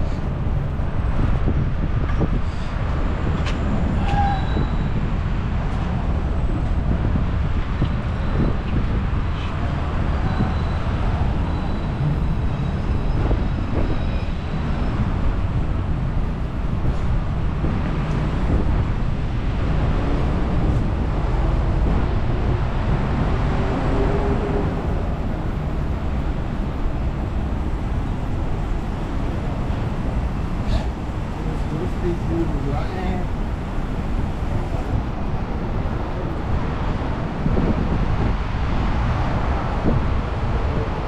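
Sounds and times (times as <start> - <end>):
traffic rumble: 0.0 - 41.0.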